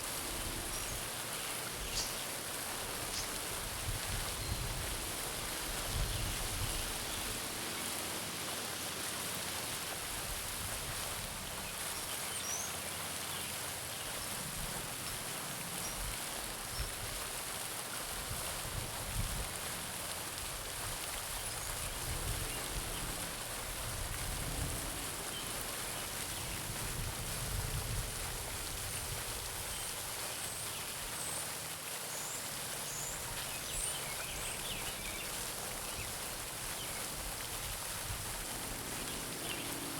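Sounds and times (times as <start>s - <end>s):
fountain splashing into pond: 0.0s - 39.9s.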